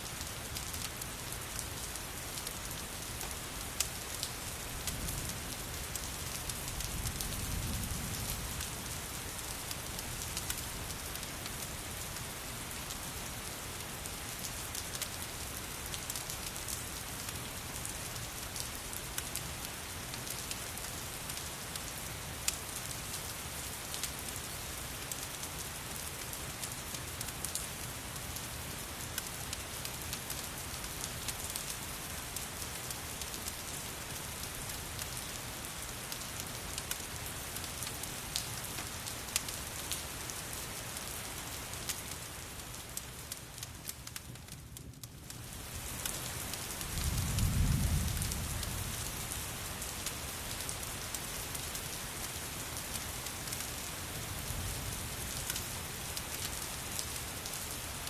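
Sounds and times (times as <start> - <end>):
rain pattering: 0.0 - 58.0
wood fire crackling: 8.6 - 11.8, 13.7 - 58.0.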